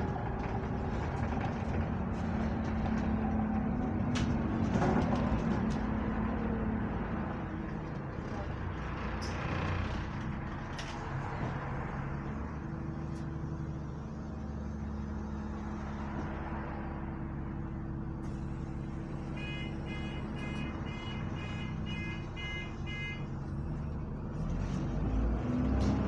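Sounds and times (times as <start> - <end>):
bus engine hum: 0.0 - 26.0.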